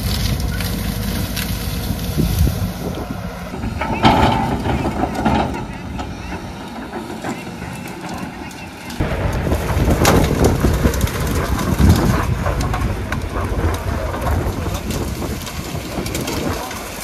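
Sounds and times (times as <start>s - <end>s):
excavator engine under load: 0.0s - 17.0s
rock and brush crackling: 0.0s - 17.0s.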